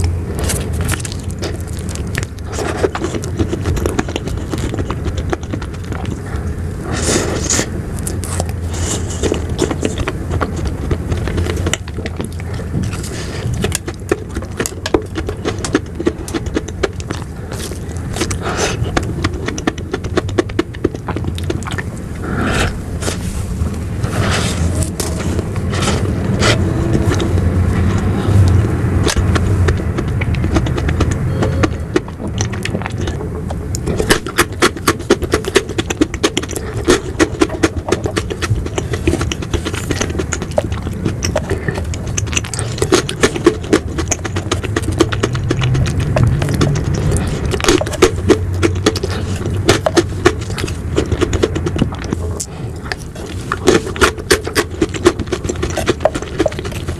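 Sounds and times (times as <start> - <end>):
mouth sounds eating ice cream: 0.0 - 56.9
steady low hum: 0.0 - 56.9.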